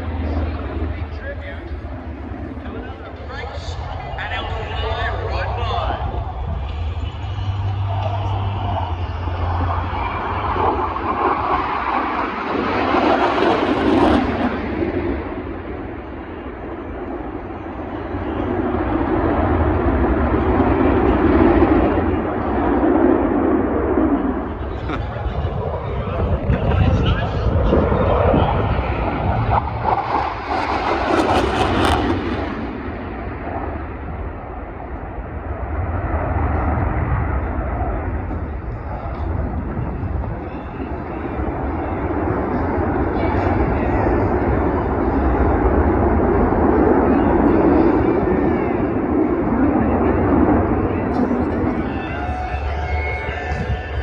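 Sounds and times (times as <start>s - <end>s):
aircraft engine roar: 0.0s - 54.0s.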